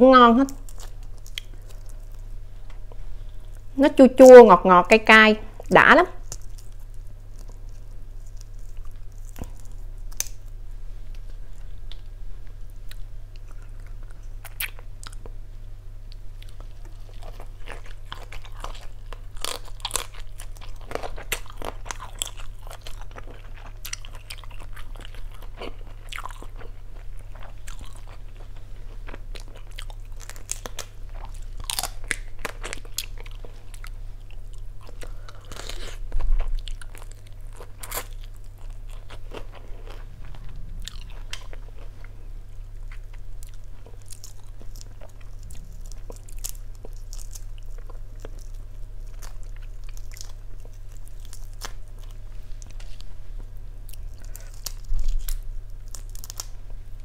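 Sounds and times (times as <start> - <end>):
faint low hum: 0.0 - 57.0
person chewing crunchy food: 0.6 - 3.7, 6.2 - 15.4, 16.1 - 56.7.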